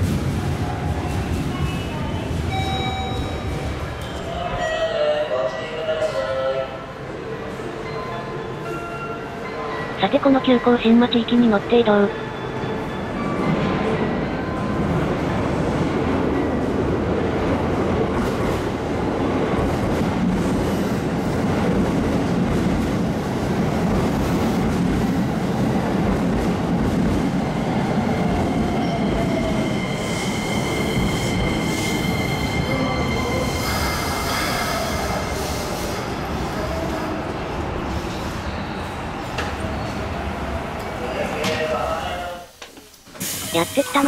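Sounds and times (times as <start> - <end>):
electric train rumbling: 0.0 - 44.0.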